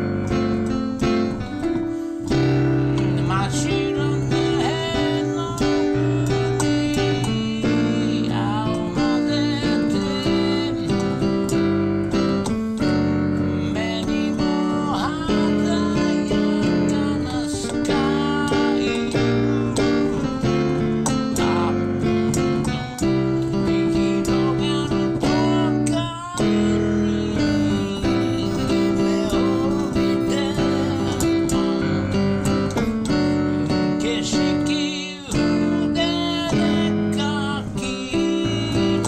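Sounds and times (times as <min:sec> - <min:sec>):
piano playing: 0:00.0 - 0:39.0
wordless voice singing: 0:03.0 - 0:11.3, 0:13.4 - 0:22.2, 0:23.6 - 0:39.0.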